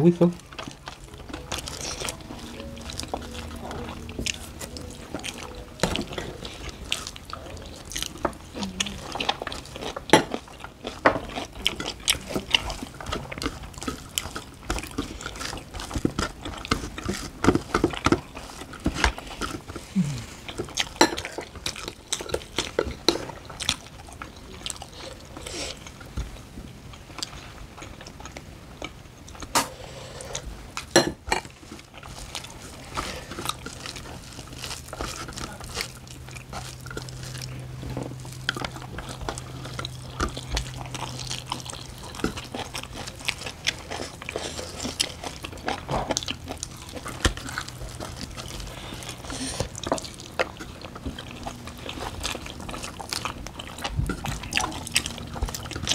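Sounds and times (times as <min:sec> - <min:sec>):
wet chewing: 0:00.2 - 0:55.9.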